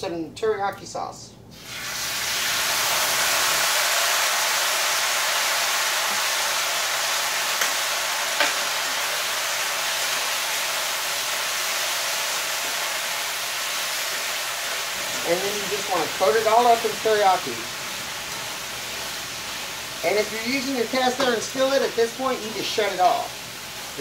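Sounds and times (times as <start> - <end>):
sauce sizzling in skillet: 1.5 - 24.0.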